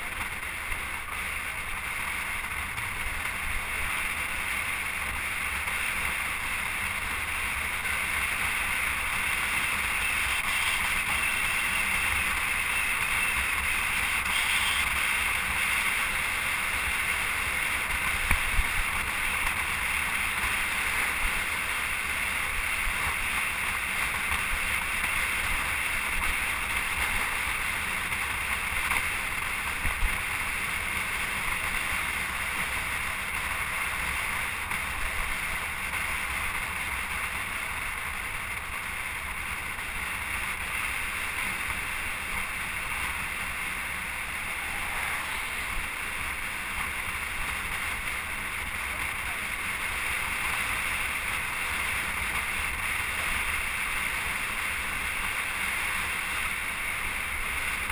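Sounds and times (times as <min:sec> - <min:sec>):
wind noise on microphone: 0:00.0 - 0:57.9.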